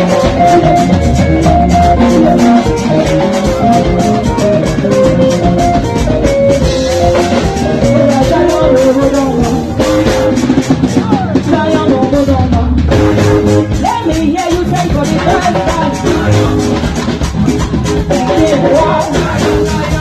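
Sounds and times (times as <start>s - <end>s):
up-tempo gospel music: 0.0s - 20.0s.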